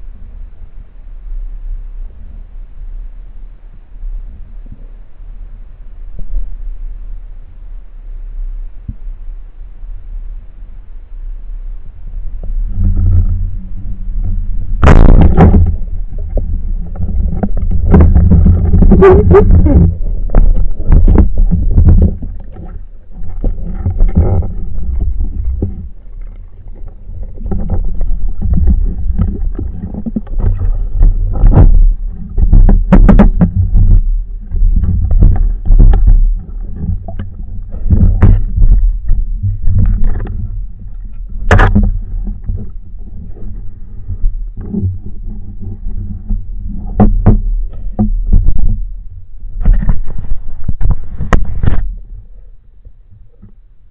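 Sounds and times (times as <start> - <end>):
underwater rumble: 0.0 - 53.9.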